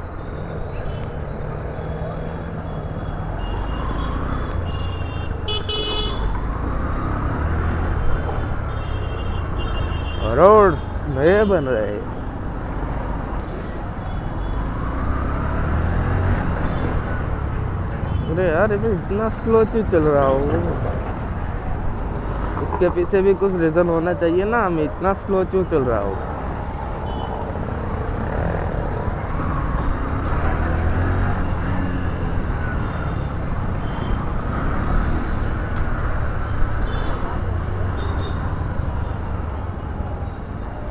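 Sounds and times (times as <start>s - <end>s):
motorcycle engine and road rumble: 0.0s - 40.9s
surrounding traffic: 0.0s - 40.9s.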